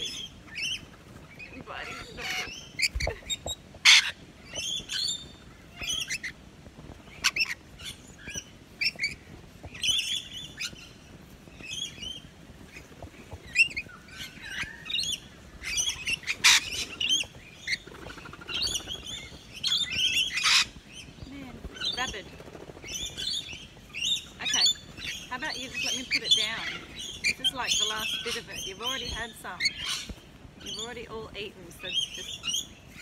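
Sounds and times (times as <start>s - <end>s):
flock of parrots chattering: 0.0s - 6.3s, 7.0s - 9.2s, 13.5s - 32.7s.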